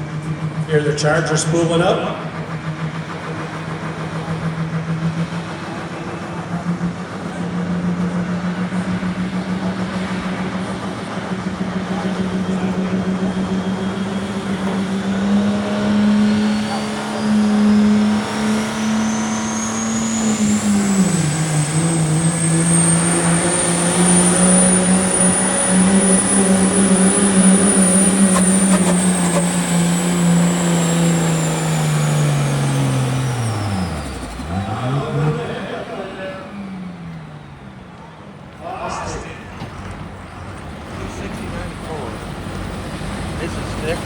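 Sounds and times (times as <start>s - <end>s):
turbocharger whistling: 0.0s - 37.8s
pickup diesel engine under load: 0.0s - 44.0s.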